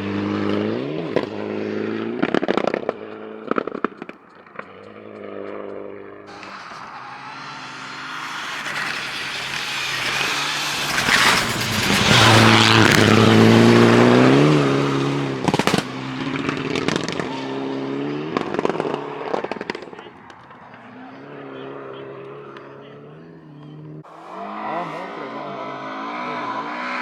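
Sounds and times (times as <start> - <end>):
exhaust cracks and crackles: 0.0 - 27.0
rally car passing at speed: 0.0 - 27.0.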